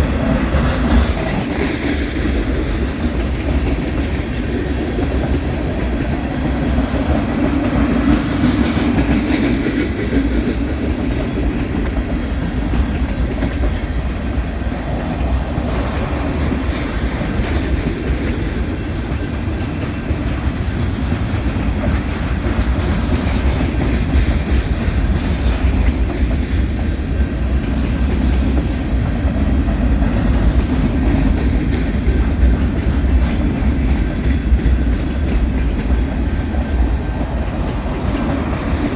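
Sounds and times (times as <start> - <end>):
clickety-clack over rail joints: 0.0 - 38.9
freight train wheels rumbling: 0.0 - 38.9.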